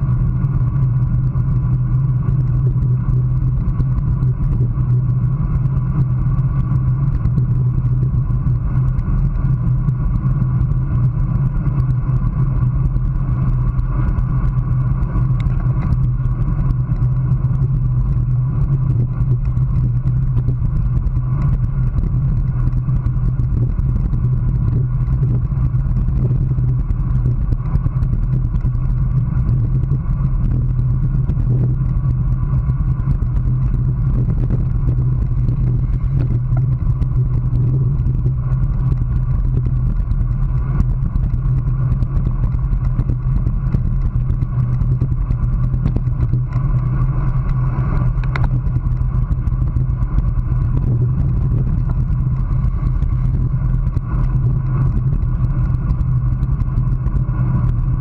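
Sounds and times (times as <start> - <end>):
road rumble: 0.0 - 58.0
wind rush: 0.0 - 58.0.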